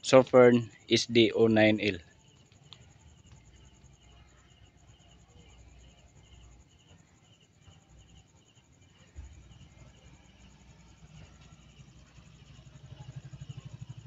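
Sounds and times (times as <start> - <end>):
faint crickets chirping: 0.0 - 14.0.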